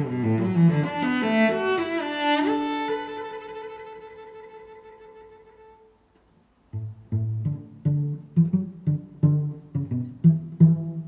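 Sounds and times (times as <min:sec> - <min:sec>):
instrumental string music: 0:00.0 - 0:11.0.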